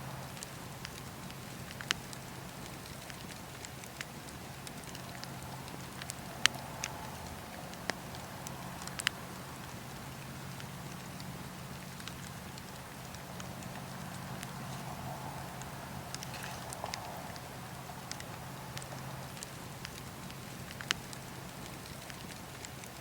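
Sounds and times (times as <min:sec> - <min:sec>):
campfire crackling: 0:00.0 - 0:23.0
low rumble of burning fire: 0:00.0 - 0:23.0.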